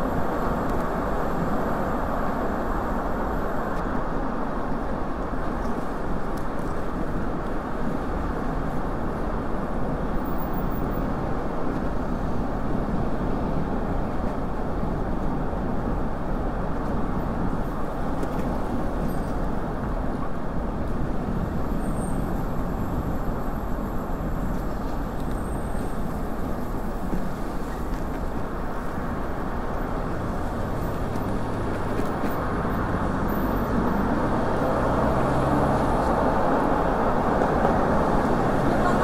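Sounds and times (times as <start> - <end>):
bicycle road noise: 0.0 - 39.0
car traffic: 0.0 - 39.0.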